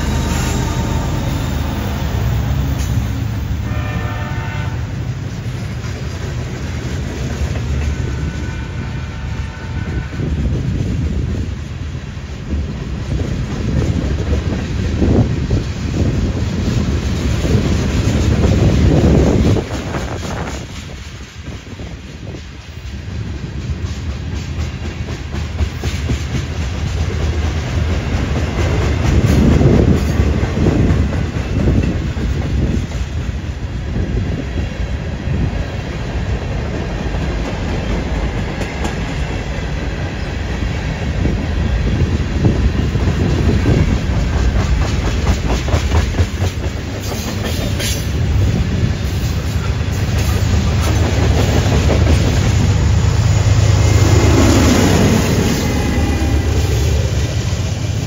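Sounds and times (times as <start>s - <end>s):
train wheels clacking: 0.0s - 33.7s, 35.8s - 58.0s
train rumble: 0.0s - 58.0s.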